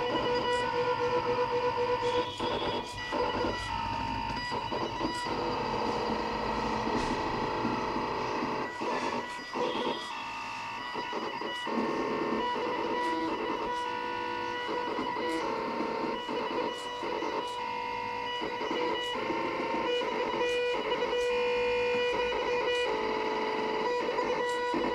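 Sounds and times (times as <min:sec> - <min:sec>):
stepper motors whining: 0:00.0 - 0:24.9.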